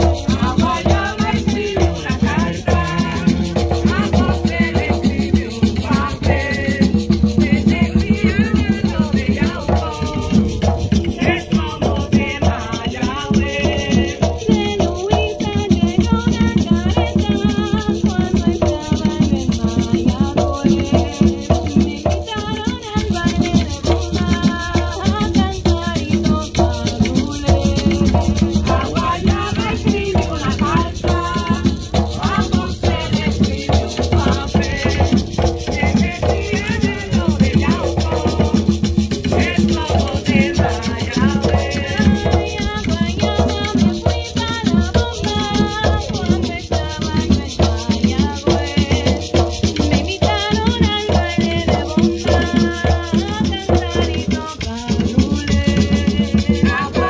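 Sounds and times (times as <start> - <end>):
hand drums fast rhythm: 0.0 - 57.0
people singing into microphones: 0.0 - 57.0
shaker: 0.0 - 57.0.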